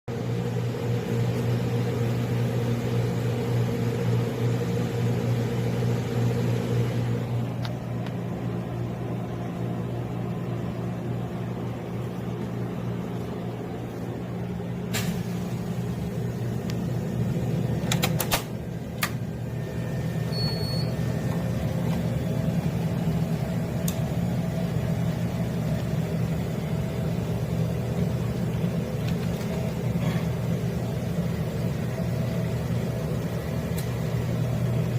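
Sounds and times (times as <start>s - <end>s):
freezer electric hum: 0.1s - 34.9s.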